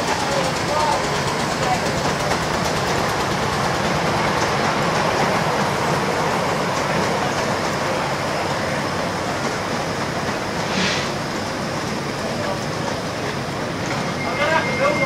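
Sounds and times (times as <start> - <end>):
train wheels rolling on steel track: 0.0 - 15.0.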